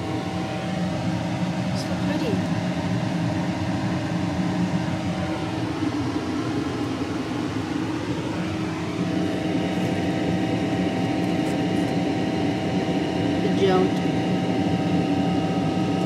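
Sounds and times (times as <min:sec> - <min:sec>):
mechanical hum with held tones: 0:00.0 - 0:16.0.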